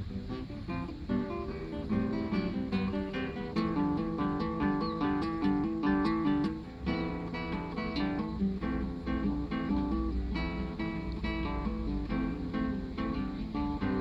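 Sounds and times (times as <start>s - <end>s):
fingerstyle acoustic guitar: 0.0s - 14.0s.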